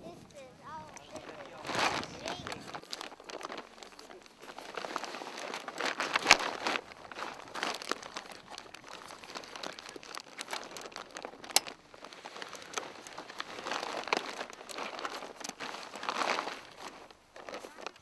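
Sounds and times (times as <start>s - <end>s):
sail cloth crinkling and rustling: 0.0s - 18.0s.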